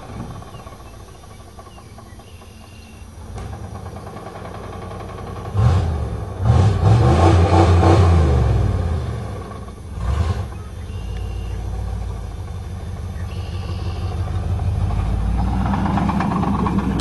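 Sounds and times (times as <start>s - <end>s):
pickup engine revving: 0.0s - 17.0s.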